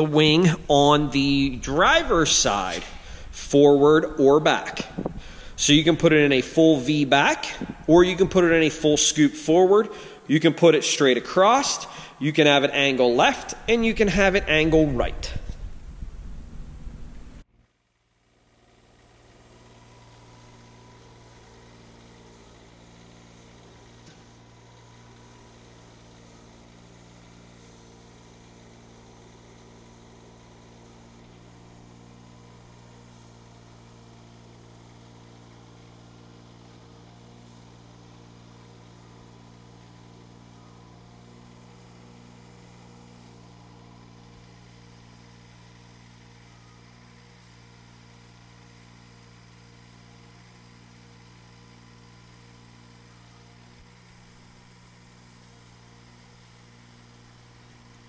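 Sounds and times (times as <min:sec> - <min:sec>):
tractor diesel engine running: 0:00.0 - 0:17.4, 0:18.3 - 0:58.0.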